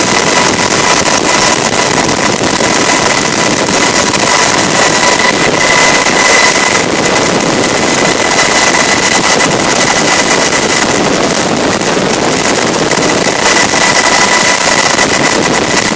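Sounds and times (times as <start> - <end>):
helicopter rotor and turbine noise: 0.0 - 15.9
high-pitched whine: 0.0 - 15.9.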